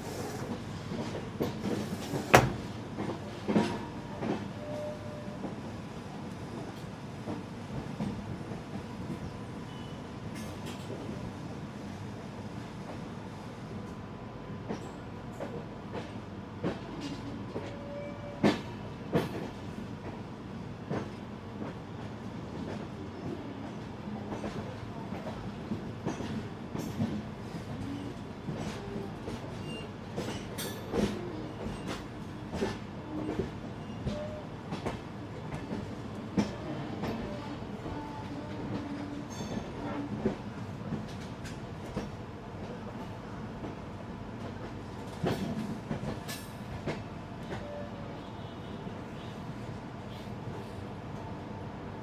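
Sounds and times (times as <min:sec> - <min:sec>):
train coach rumbling on track: 0:00.0 - 0:52.0.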